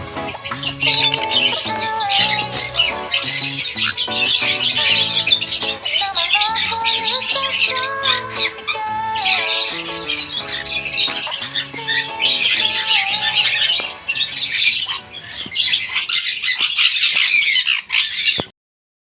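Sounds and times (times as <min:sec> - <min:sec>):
parrots screeching: 0:00.0 - 0:08.5, 0:09.3 - 0:18.5
background music: 0:00.0 - 0:15.5.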